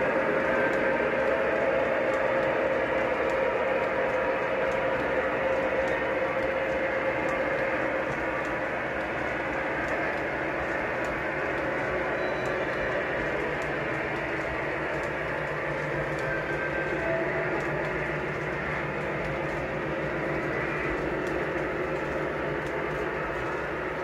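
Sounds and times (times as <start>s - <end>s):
model train cars rolling on track: 0.0s - 24.0s
steady hum: 0.0s - 24.0s.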